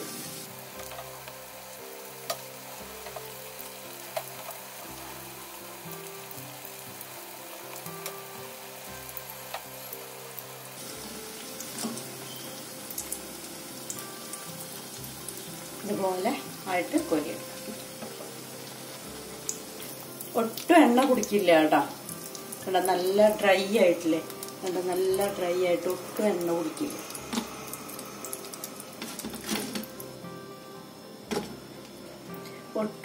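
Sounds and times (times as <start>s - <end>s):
dumplings sizzling in hot oil: 0.0s - 32.9s.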